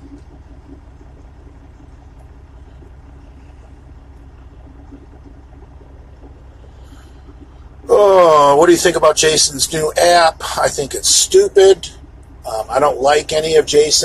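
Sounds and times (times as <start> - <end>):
faint steady hum: 0.0 - 14.0
truck engine rumble: 0.0 - 14.0.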